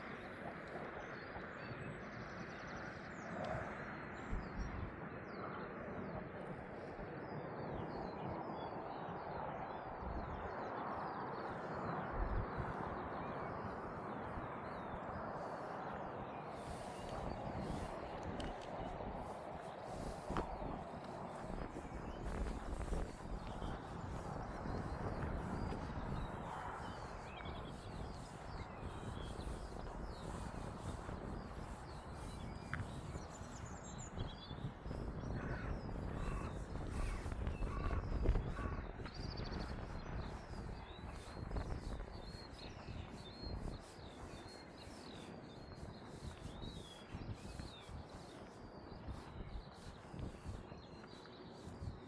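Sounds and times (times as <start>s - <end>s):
small birds chirping: 7.2s - 52.0s.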